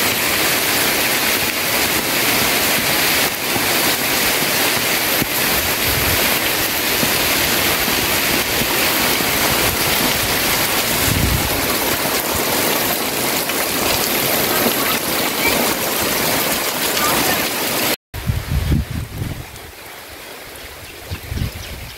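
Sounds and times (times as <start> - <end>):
heavy rain pouring: 0.0 - 21.8.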